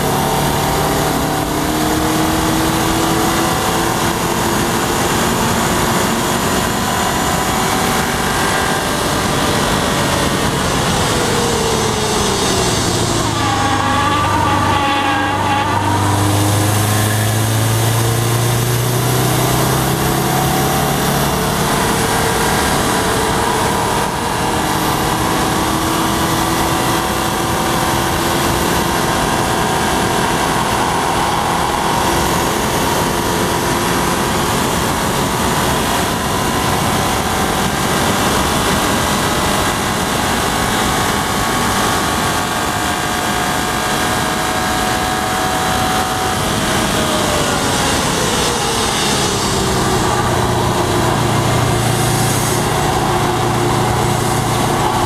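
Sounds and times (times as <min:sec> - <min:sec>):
car engine accelerating: 0:00.0 - 0:55.0
wind and road noise: 0:00.0 - 0:55.0.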